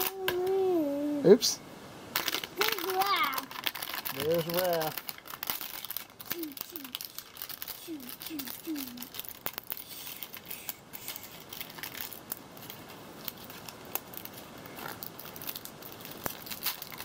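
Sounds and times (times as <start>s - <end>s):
plastic packaging crinkling: 2.1s - 17.0s.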